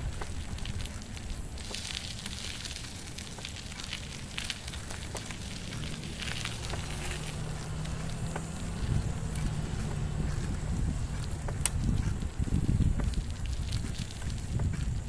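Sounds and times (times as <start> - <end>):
bicycle tyres crackling on road: 0.0 - 15.0
bike rattling: 0.0 - 15.0
wind rumbling on microphone: 0.0 - 15.0
steady low hum: 2.6 - 15.0.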